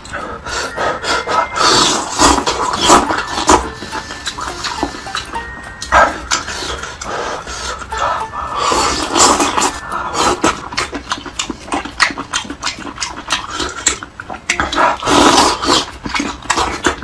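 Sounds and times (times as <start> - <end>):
noodles slurped and chewed: 0.0 - 5.4, 6.2 - 17.0.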